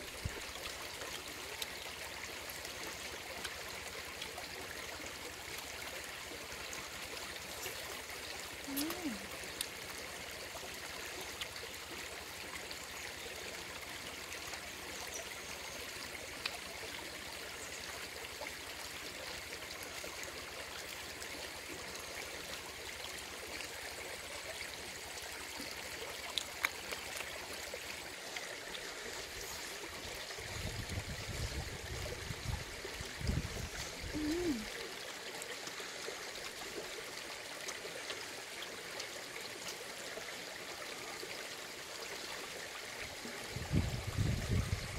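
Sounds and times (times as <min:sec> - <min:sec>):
stream babbling: 0:00.0 - 0:44.9.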